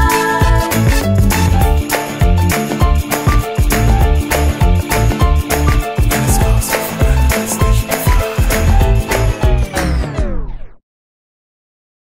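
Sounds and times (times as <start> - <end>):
steady drum beat: 0.0 - 9.7
pitched instrumental notes: 0.0 - 10.1.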